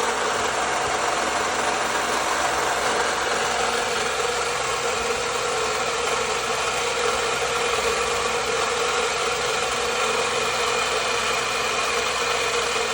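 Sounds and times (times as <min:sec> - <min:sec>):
car engine idling loudly: 0:00.0 - 0:12.9.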